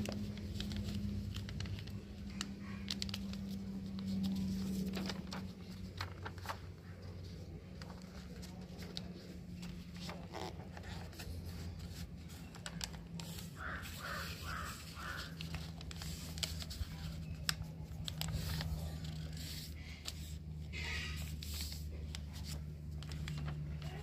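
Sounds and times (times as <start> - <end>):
paper crinkling and creasing: 0.0 - 24.0.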